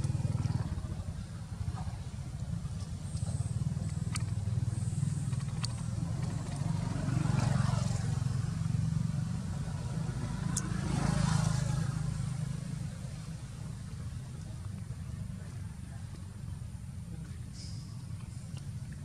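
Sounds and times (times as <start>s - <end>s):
vehicles passing by: 0.0s - 19.0s.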